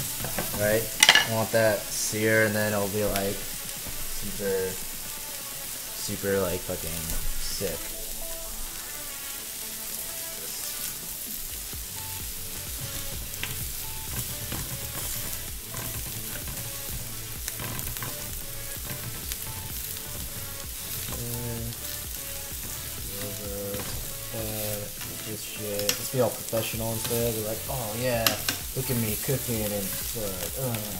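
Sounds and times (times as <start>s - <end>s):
vegetables sizzling in a pan: 0.0s - 30.9s.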